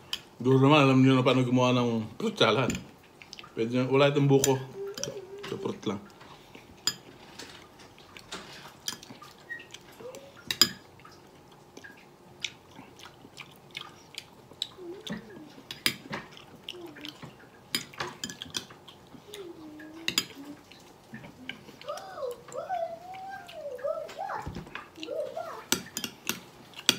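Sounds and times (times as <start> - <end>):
chewing: 3.0 - 3.6, 4.4 - 26.9.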